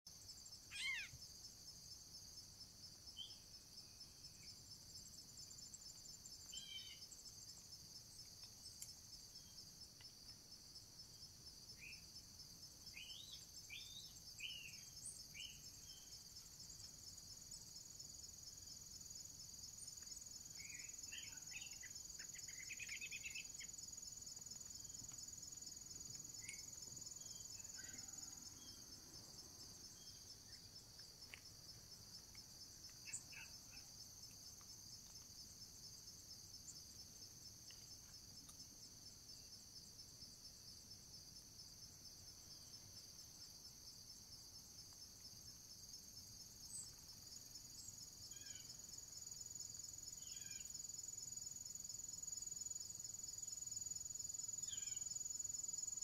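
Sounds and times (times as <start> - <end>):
crickets and insects chorus: 0.1 - 56.0.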